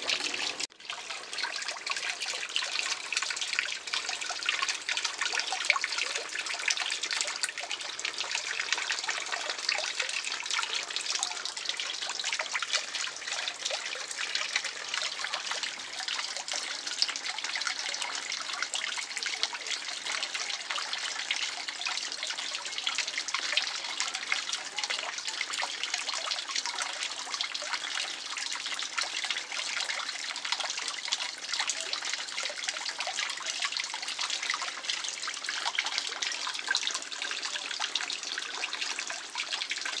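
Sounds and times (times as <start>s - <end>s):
pond water trickling and splashing: 0.0s - 40.0s.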